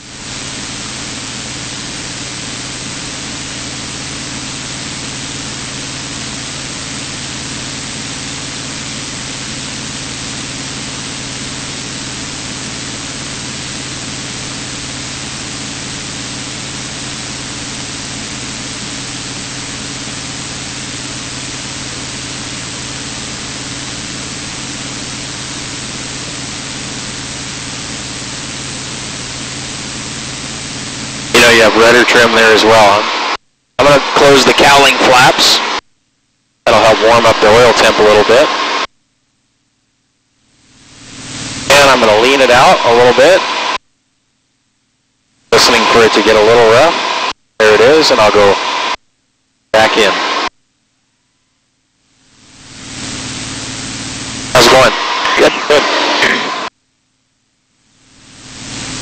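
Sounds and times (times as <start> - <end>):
small plane cabin drone: 0.0 - 35.8, 36.7 - 38.9, 40.6 - 43.8, 45.5 - 49.0, 49.7 - 50.5, 51.8 - 56.7, 57.9 - 59.0.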